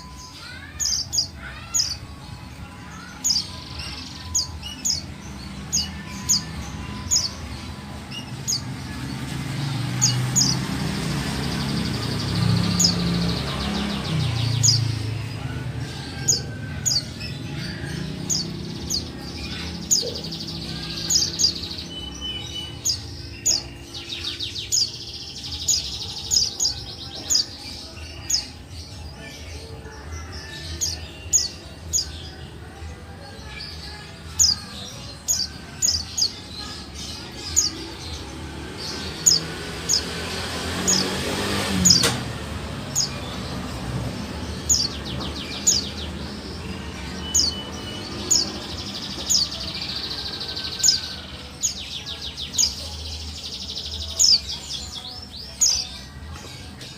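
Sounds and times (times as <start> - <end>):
bird chirping: 0.0 - 56.9.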